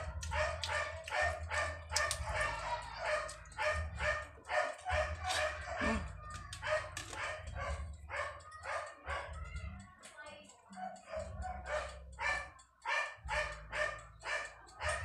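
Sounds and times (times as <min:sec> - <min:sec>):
dog barking rapidly: 0:00.0 - 0:09.5, 0:10.8 - 0:15.0.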